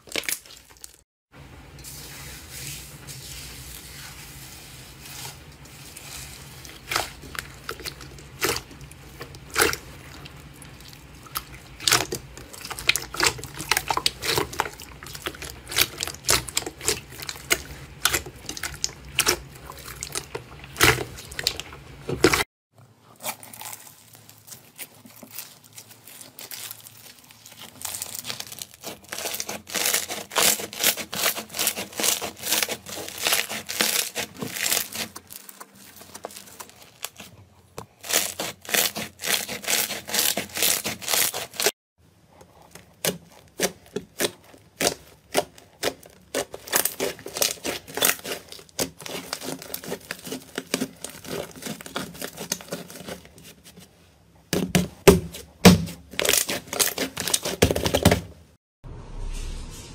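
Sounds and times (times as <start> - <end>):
foam slime crackling and popping: 5.1 - 22.4, 23.2 - 37.3, 37.9 - 41.7, 42.7 - 53.5, 55.1 - 58.2
clay slime kneaded with pops: 6.0 - 58.6.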